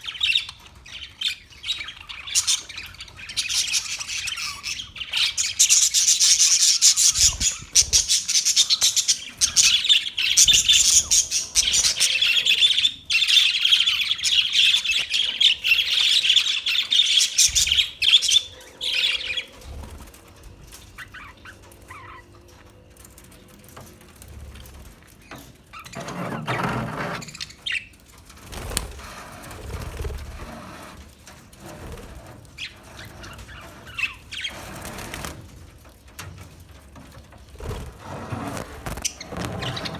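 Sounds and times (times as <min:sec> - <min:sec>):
parakeets chirping and chattering: 0:00.0 - 0:39.9.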